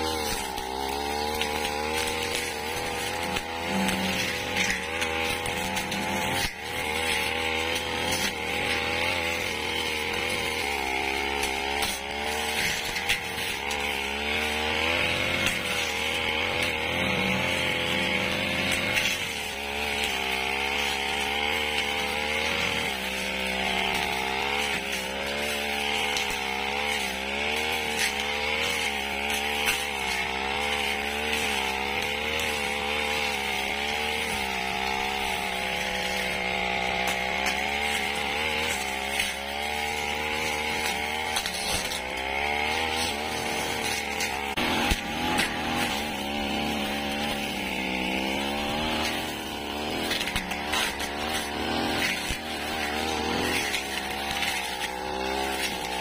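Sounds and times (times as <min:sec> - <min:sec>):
blade cutting dry grass: 0:00.0 - 0:56.0
brush cutter engine revving: 0:00.0 - 0:56.0.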